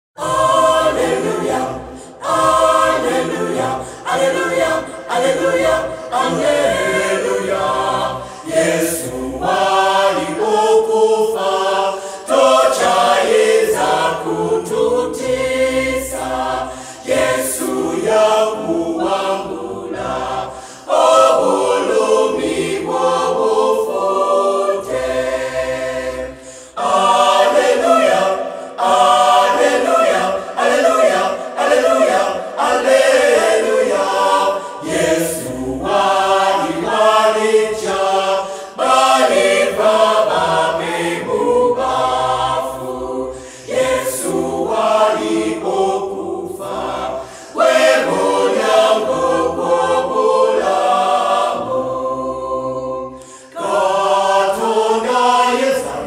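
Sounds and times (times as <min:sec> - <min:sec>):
group singing gospel unaccompanied: 0:00.2 - 0:56.0.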